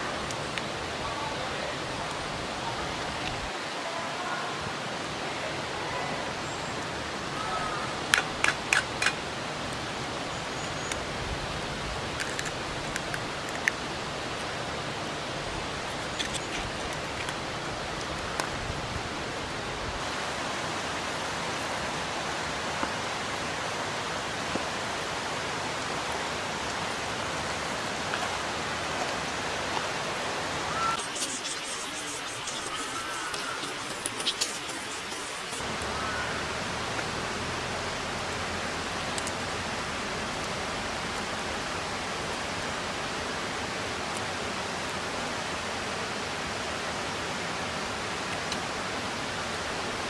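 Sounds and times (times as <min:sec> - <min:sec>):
mountain stream rushing: 0:00.0 - 0:50.0.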